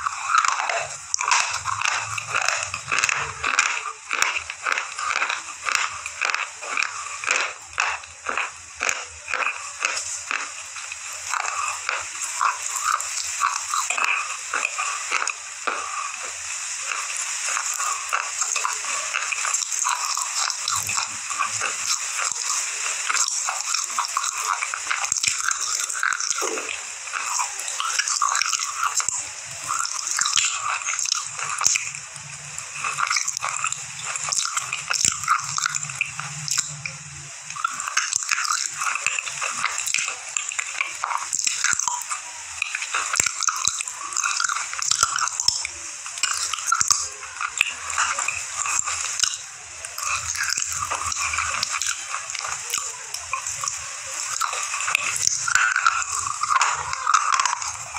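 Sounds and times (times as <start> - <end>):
chewing and crunching chalky stick: 0.0 - 57.9.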